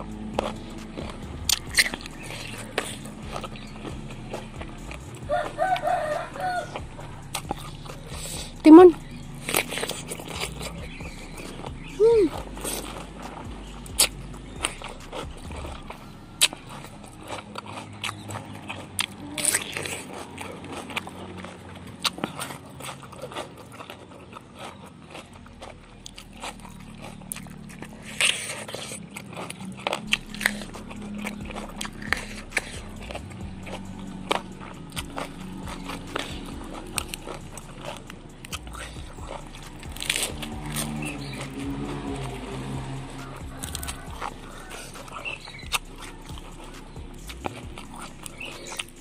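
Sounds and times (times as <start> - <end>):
crunching raw vegetables: 0.0 - 49.0.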